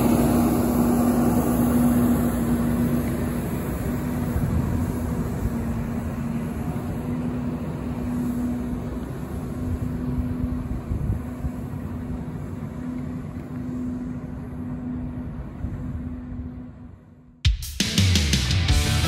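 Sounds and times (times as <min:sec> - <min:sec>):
constant hum: 0:00.0 - 0:17.4
truck engine rumble: 0:00.0 - 0:19.0.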